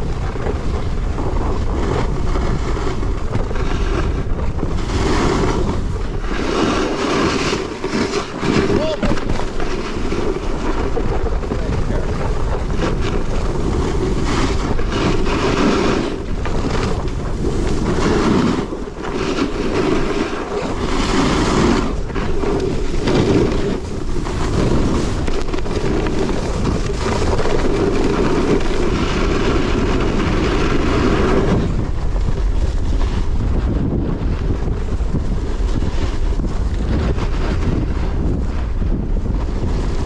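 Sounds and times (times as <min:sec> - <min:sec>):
snowboard scraping on snow: 0:00.0 - 0:40.0
wind buffeting microphone: 0:00.0 - 0:40.0.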